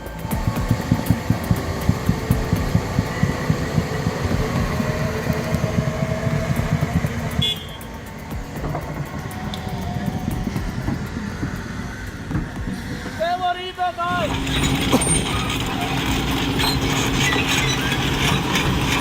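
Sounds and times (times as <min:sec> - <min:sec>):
faint hydraulic whine: 0:00.0 - 0:13.3, 0:14.1 - 0:19.0
excavator engines rumbling: 0:00.0 - 0:19.0.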